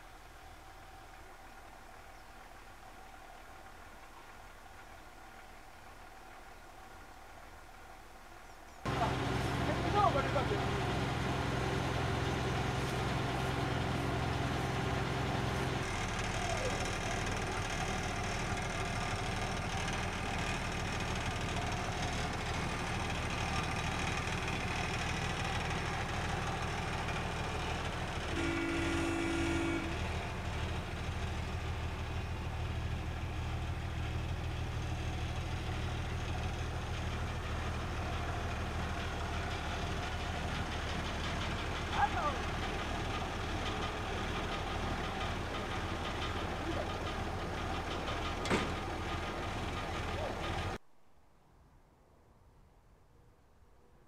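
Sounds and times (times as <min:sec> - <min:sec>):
diesel engine idling: 0:00.0 - 0:50.8.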